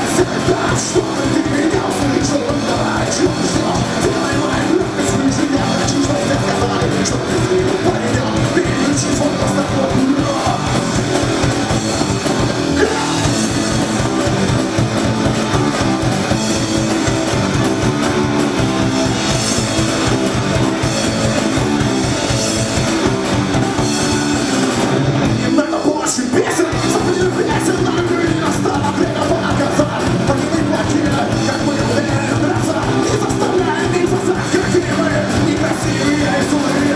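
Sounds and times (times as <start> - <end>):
bass guitar: 0.0 - 36.9
distorted electric guitars: 0.0 - 36.9
drums: 0.0 - 36.9.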